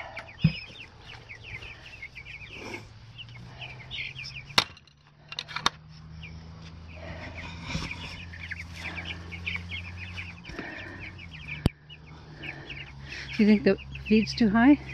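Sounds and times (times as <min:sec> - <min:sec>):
chicks peeping: 0:00.0 - 0:04.8, 0:05.7 - 0:14.9.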